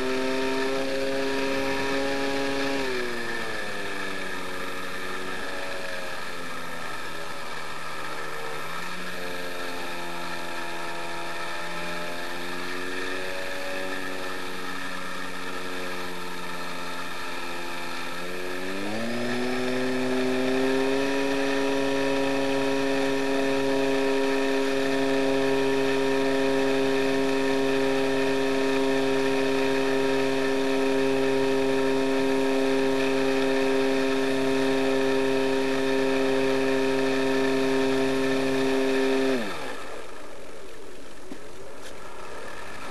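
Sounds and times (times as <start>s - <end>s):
model plane motor running: 0.0s - 42.9s.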